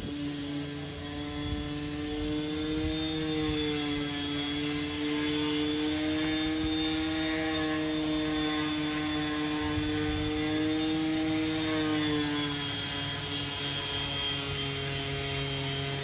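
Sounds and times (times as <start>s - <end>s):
motor drone with high whine: 0.0s - 16.0s.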